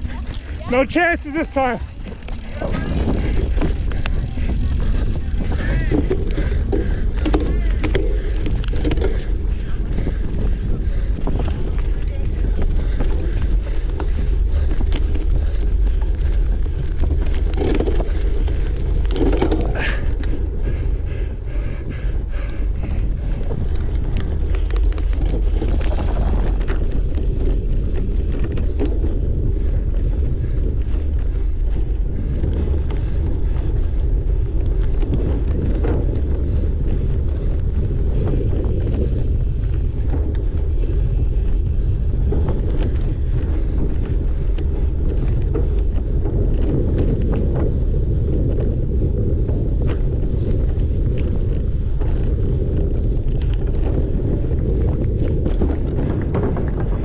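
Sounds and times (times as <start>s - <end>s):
bike clicks and rattles: 0.0s - 57.0s
wind buffeting microphone: 0.0s - 57.0s.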